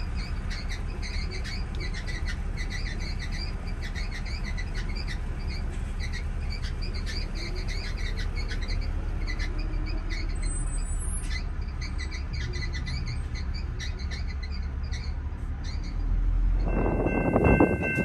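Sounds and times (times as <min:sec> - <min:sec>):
small birds chirping: 0:00.0 - 0:16.2.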